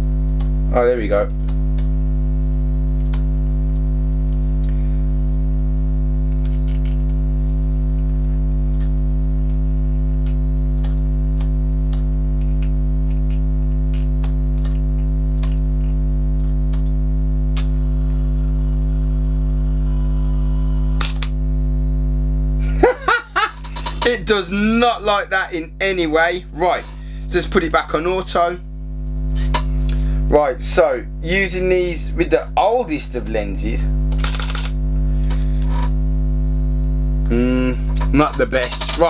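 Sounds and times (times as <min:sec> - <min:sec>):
low electrical buzzing hum: 0:00.0 - 0:39.0.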